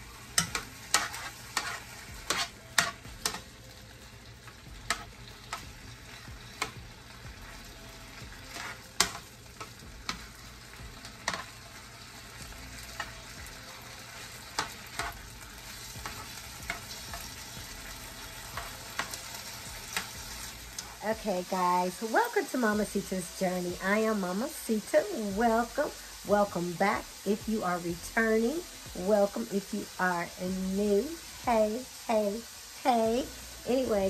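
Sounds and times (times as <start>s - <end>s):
shrimp sizzling in butter: 0.0s - 34.0s.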